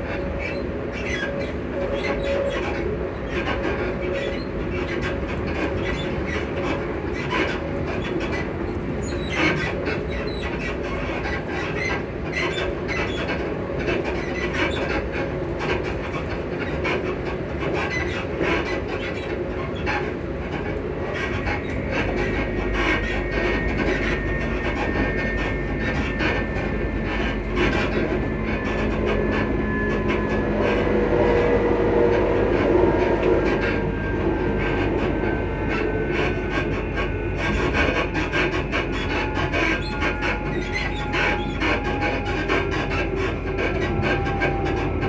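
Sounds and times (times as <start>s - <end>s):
train motor hum: 0.0s - 45.0s
train wheels rumbling on rail: 0.0s - 45.0s.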